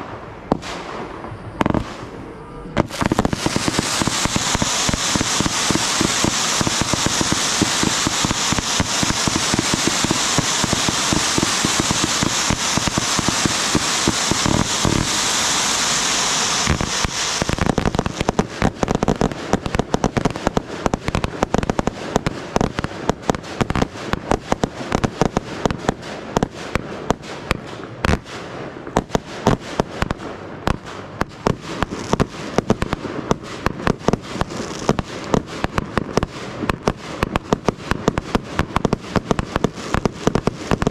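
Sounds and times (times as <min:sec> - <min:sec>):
fireworks crackling and banging: 0:00.0 - 0:40.9.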